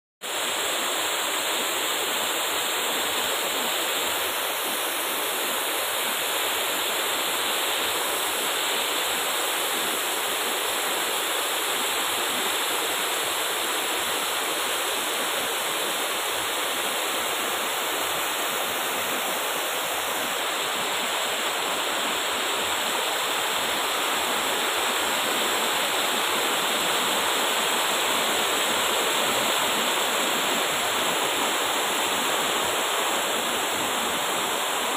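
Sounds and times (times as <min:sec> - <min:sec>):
water rushing over rocks: 0:00.2 - 0:34.9.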